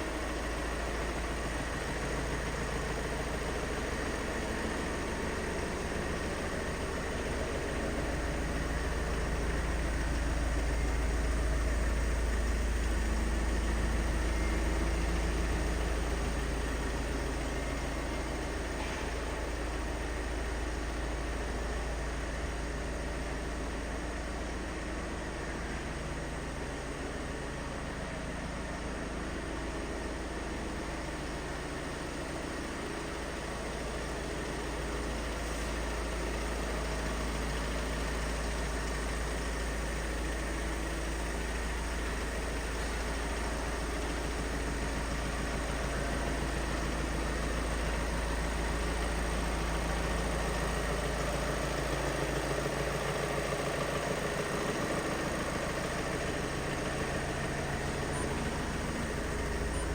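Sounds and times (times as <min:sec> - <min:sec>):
van engine idling: 0:00.0 - 0:59.9.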